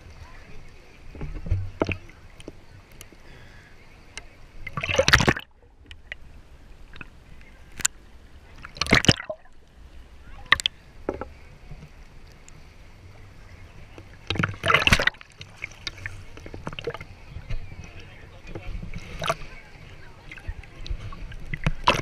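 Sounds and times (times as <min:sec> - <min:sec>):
water sloshing and splashing: 0:00.0 - 0:22.0.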